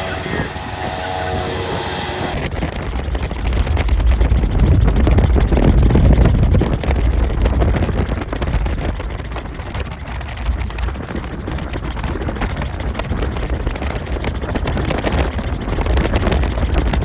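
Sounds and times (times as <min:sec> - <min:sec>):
helicopter rotor chop: 0:00.0 - 0:17.0.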